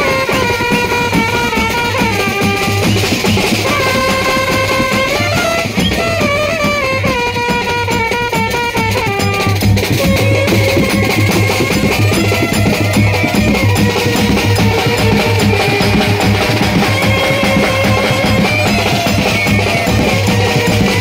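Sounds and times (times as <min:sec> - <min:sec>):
bass drum and snare beat: 0:00.0 - 0:21.0
brass band playing: 0:00.0 - 0:21.0.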